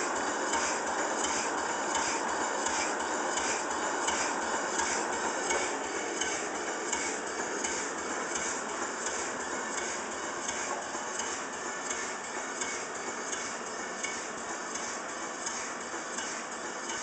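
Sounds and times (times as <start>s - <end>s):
steam engine exhaust puffs: 0.0s - 17.0s.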